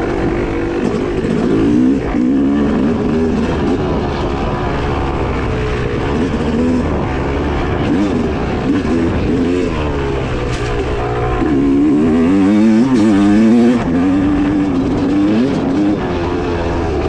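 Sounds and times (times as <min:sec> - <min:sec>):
two-stroke engine revving: 0:00.0 - 0:17.0.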